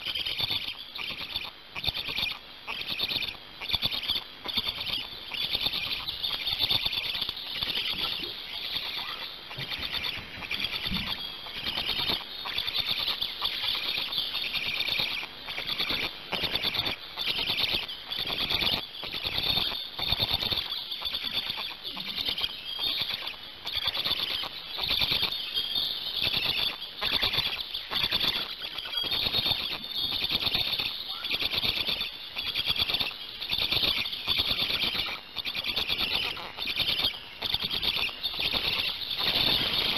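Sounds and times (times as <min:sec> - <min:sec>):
chicks squealing: 0:00.0 - 0:39.9.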